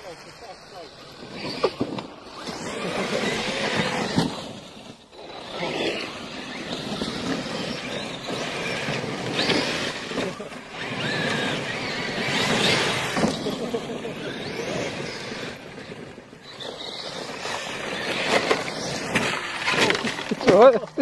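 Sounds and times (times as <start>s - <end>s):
noisy rush: 0.0s - 20.5s
rc truck electric motors whining: 0.0s - 21.0s.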